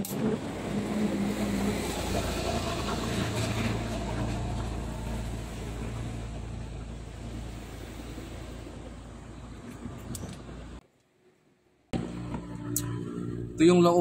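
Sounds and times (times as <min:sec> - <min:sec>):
low engine rumble: 0:00.0 - 0:10.8, 0:12.0 - 0:14.0.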